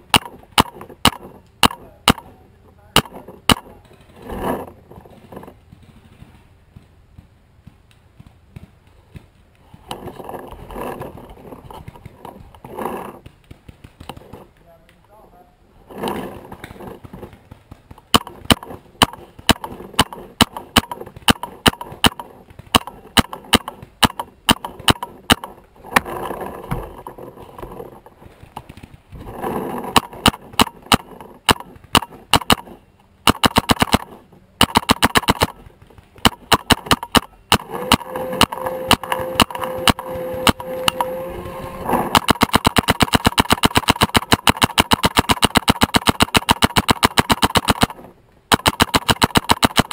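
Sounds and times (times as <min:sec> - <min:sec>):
paintball marker shots: 0:00.0 - 0:10.2, 0:10.8 - 0:15.0, 0:16.0 - 0:27.0, 0:27.6 - 0:49.9.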